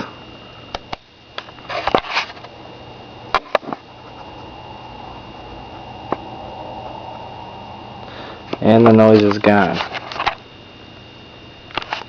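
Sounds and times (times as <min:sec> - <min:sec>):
camcorder low hum: 0:00.0 - 0:12.0
thin high tone: 0:00.3 - 0:11.5.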